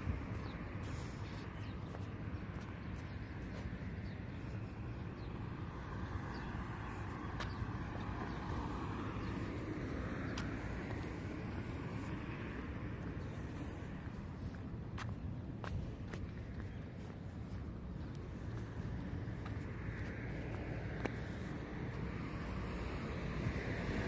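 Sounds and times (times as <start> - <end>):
car passing: 0.0 - 14.9, 15.8 - 24.0
low traffic rumble: 0.0 - 24.0.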